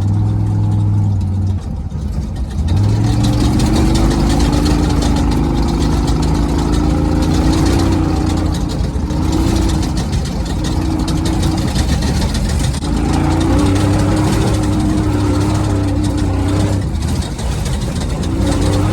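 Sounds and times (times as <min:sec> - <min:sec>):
truck engine revving: 0:00.0 - 0:18.9.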